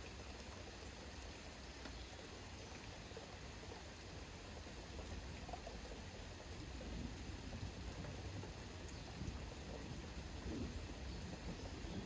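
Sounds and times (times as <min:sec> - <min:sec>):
light rain hiss: 0:00.0 - 0:12.0.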